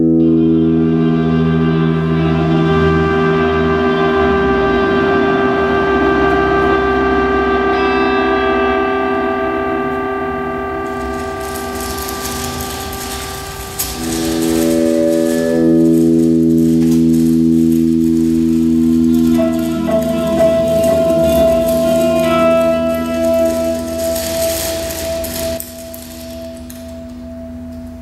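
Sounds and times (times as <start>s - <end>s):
electronic drone chord: 0.0s - 28.0s.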